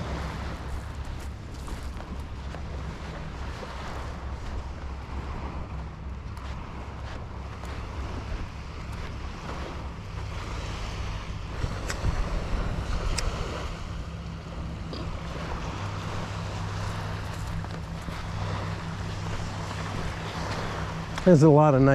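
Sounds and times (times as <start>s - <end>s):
surf washing on beach: 0.0s - 21.9s
wind buffeting microphone: 0.0s - 21.9s.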